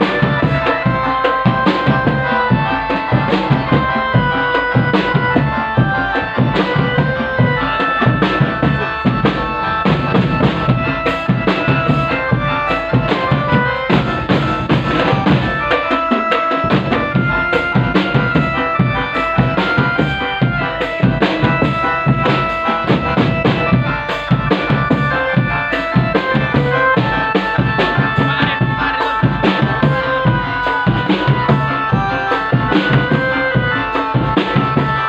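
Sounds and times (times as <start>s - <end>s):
fast dense drumming: 0.0s - 35.0s
melody of short held notes: 0.0s - 35.0s.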